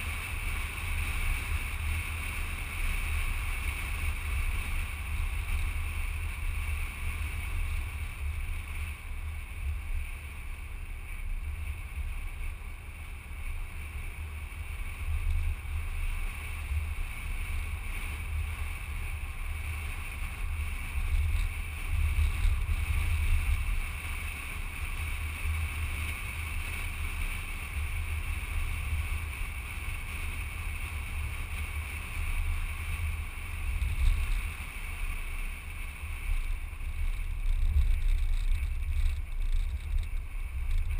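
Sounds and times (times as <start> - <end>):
car driving noise: 0.0 - 40.9.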